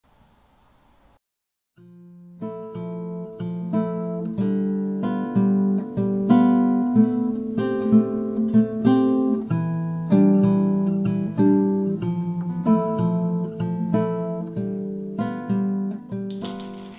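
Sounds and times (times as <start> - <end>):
acoustic guitar playing: 1.8 - 16.9.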